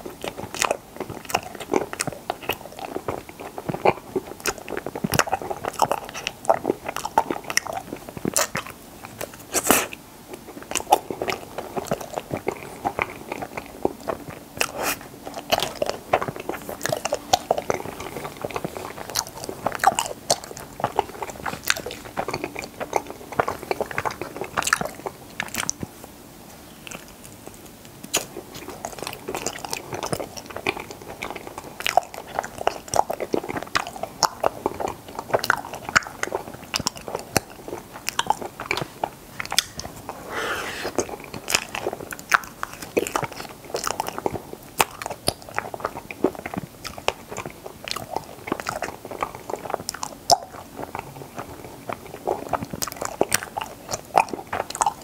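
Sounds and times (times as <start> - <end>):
crunchy bites and wet chewing: 0.0 - 25.8, 26.8 - 55.0.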